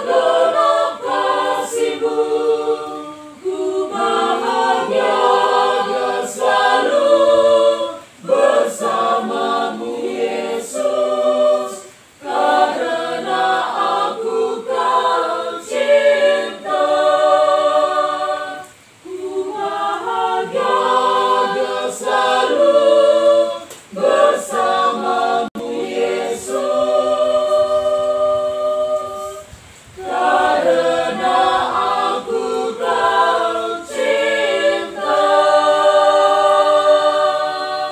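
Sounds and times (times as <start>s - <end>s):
mixed choir singing unaccompanied: 0.0s - 37.9s.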